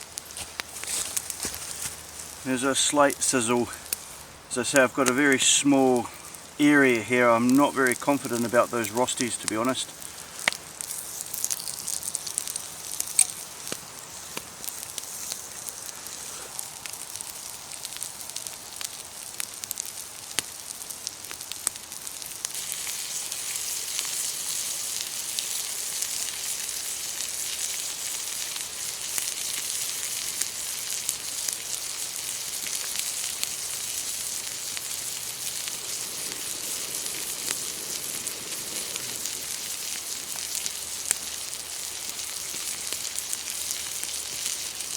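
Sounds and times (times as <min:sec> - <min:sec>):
food sizzling on hot slate: 0:00.0 - 0:44.9
sharp crackles and pops: 0:00.0 - 0:44.9.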